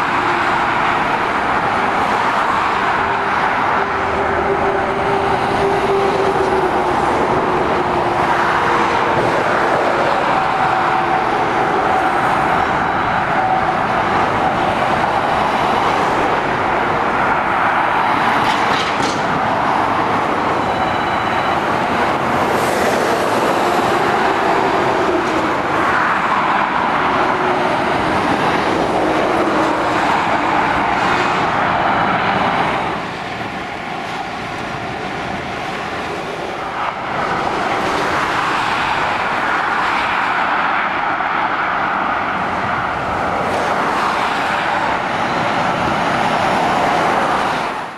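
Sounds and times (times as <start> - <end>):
road traffic passing: 0.0 - 47.9.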